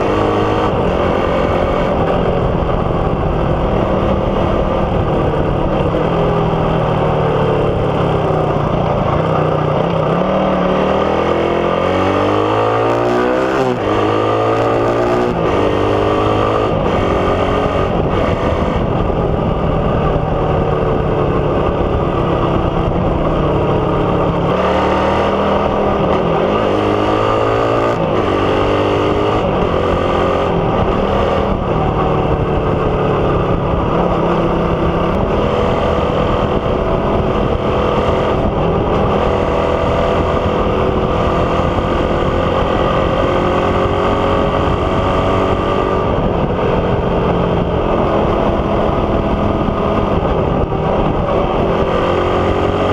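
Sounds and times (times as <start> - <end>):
motorcycle engine revving loud: 0.0 - 52.9.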